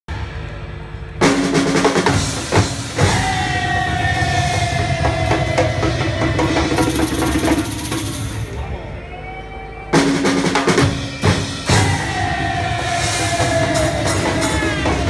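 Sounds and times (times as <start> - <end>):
fast dense drumming: 1.2 - 8.6, 10.0 - 15.0.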